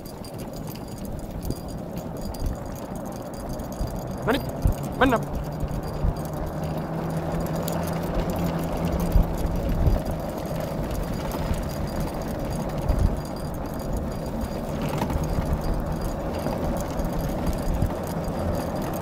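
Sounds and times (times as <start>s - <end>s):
atv rolling on road: 0.0s - 19.0s.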